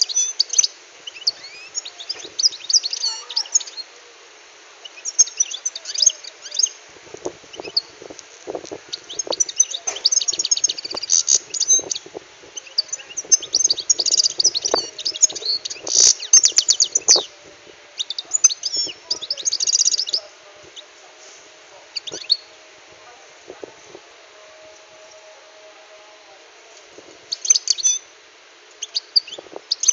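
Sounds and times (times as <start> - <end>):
finch singing: 0.0 - 4.0, 4.8 - 26.3, 27.0 - 28.1, 28.7 - 29.9.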